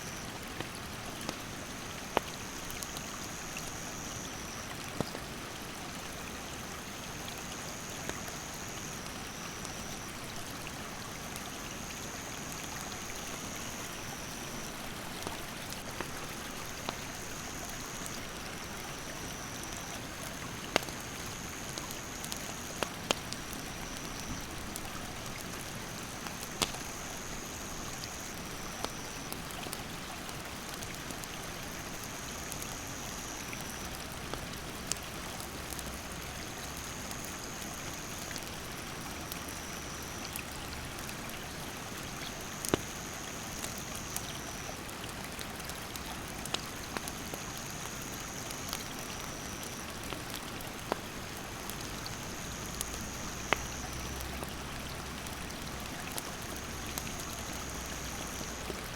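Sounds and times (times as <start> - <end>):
campfire crackling and popping: 0.1 - 5.2, 6.8 - 58.9.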